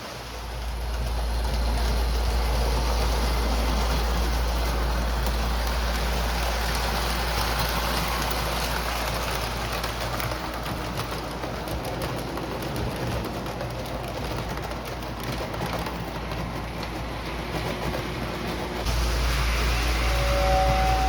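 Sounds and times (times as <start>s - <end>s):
model train rumbling and rattling: 0.0s - 21.0s.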